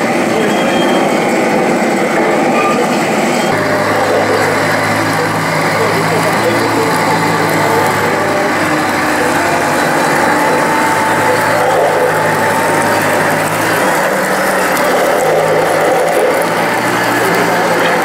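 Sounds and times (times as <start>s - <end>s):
mechanical whine: 0.0s - 18.0s
model tank engine drone: 0.0s - 18.0s.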